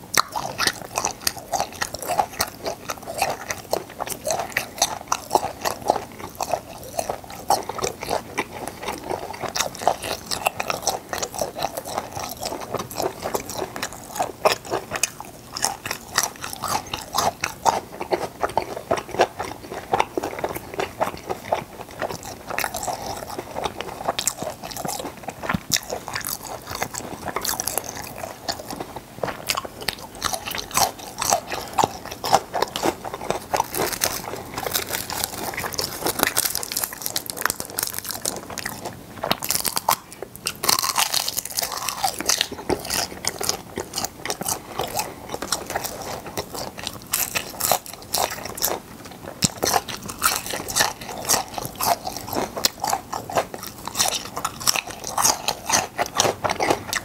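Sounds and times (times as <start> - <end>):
close chewing with mouth clicks: 0.0 - 57.0.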